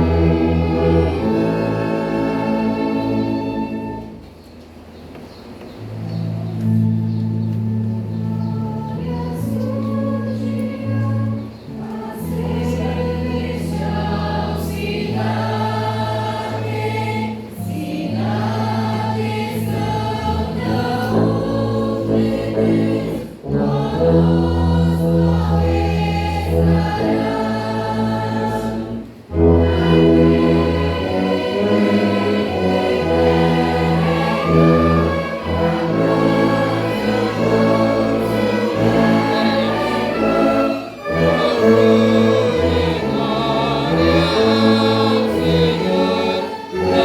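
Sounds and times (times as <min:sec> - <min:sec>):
congregation singing a hymn: 0:00.0 - 0:04.2, 0:06.6 - 0:47.0
tuba low bass notes: 0:00.0 - 0:04.2, 0:05.8 - 0:47.0.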